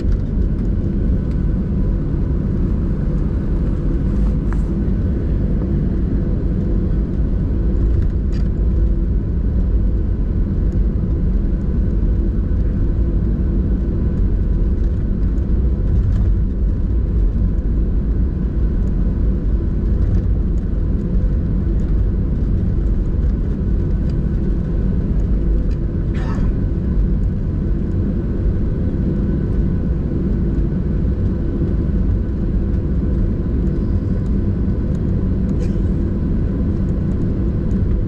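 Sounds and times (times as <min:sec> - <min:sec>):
jet engines idling low rumble: 0:00.0 - 0:38.0.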